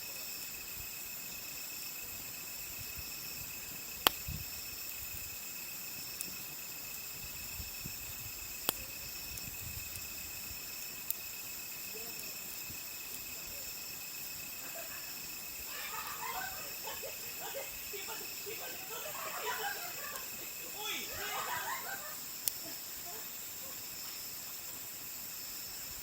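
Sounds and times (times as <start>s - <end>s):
campfire wood popping: 0.0s - 26.0s
night insects chirring: 0.0s - 26.0s.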